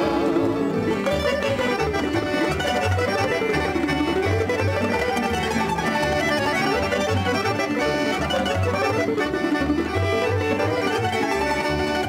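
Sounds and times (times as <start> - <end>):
accordion: 0.0 - 12.0
double bass: 0.0 - 12.0
plucked string band playing folk tune: 0.0 - 12.0.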